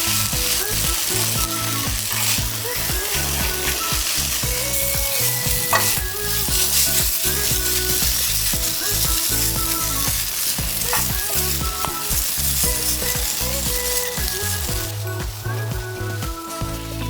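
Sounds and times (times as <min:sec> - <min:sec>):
short cooking clicks: 0:00.0 - 0:15.6
food sizzling on hot iron plate: 0:00.0 - 0:17.0.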